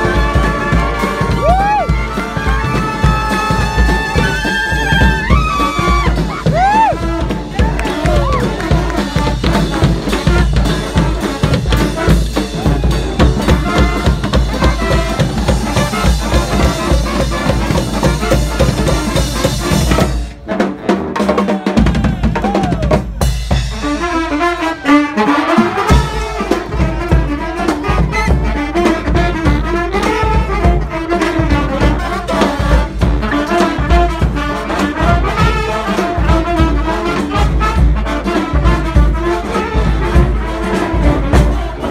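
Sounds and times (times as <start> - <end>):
drums driving the groove: 0.0 - 41.9
street brass band playing: 0.0 - 41.9.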